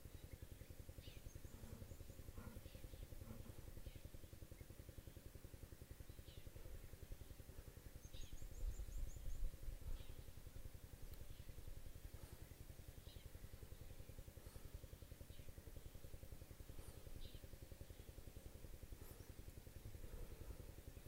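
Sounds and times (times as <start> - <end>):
distant motor throbbing: 0.0 - 21.0.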